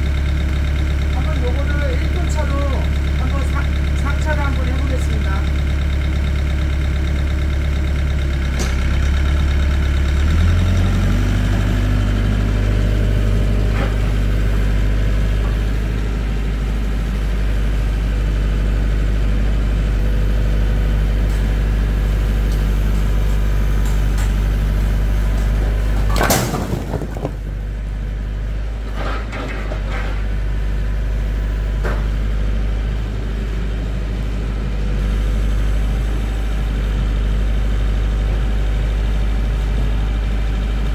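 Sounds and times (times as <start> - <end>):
vehicle engine idling: 0.0 - 40.9.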